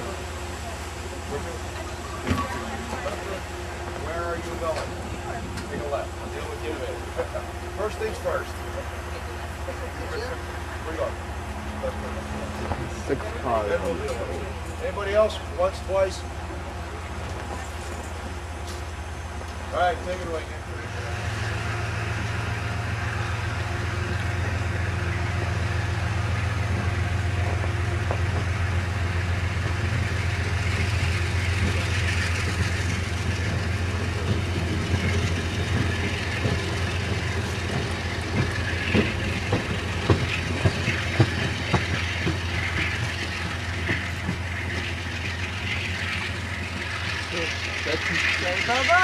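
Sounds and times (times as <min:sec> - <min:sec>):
train pulling away drone: 0:00.0 - 0:49.0
wheels rumbling on rails: 0:00.0 - 0:49.0
wheels clacking over rail joints: 0:01.4 - 0:49.0.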